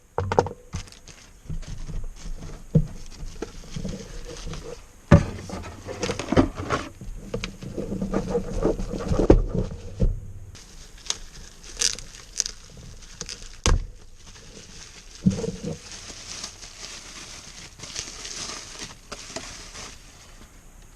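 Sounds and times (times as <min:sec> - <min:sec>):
rustling: 0:00.2 - 0:20.9.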